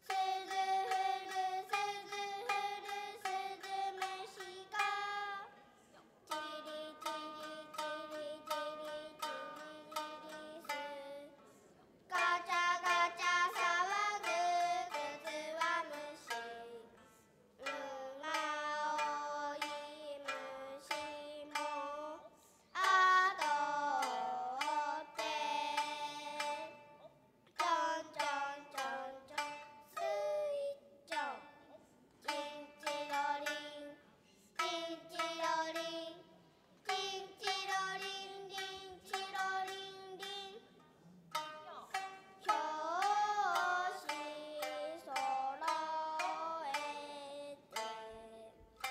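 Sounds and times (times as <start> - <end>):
girls singing: 0.0 - 11.4, 12.0 - 17.0, 17.6 - 40.7, 41.3 - 48.9
shamisen plucking: 0.0 - 48.9.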